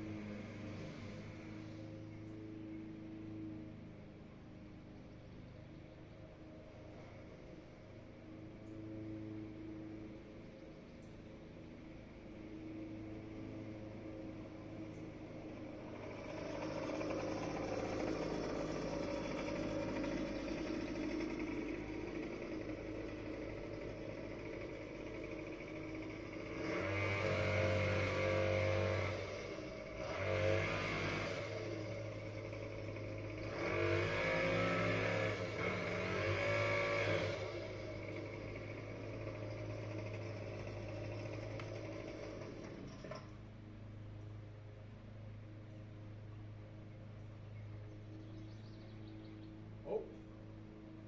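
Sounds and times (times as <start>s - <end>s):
small petrol engine revving: 0.0s - 11.0s, 11.9s - 43.5s, 48.0s - 51.0s.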